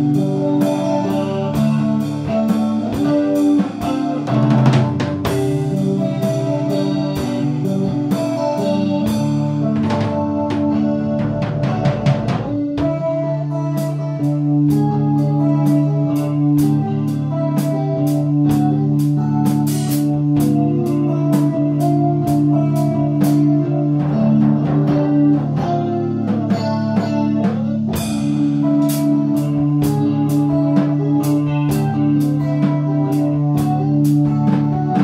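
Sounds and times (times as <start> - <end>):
drum kit beat: 0.0 - 35.0
electric guitar ringing notes: 0.0 - 35.0.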